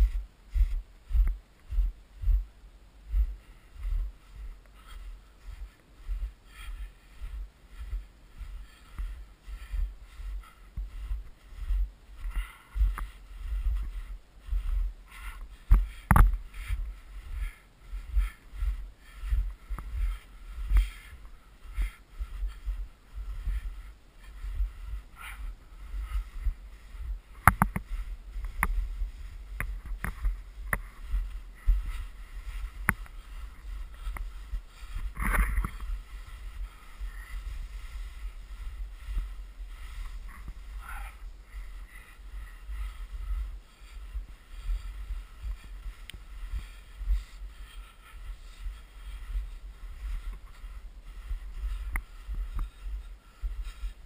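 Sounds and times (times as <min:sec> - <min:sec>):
footsteps in snow: 0:00.0 - 0:54.0.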